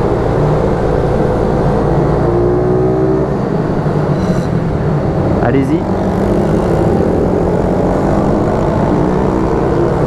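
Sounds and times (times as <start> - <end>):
rush of noise: 0.0 - 10.0.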